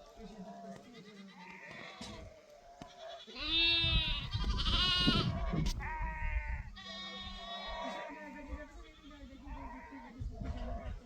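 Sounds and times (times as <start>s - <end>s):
animals bleating: 0.3s - 11.0s.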